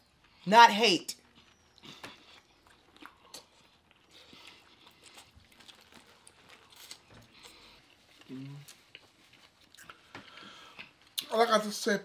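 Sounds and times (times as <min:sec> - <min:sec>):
chewing corn on the cob: 0:01.2 - 0:11.3.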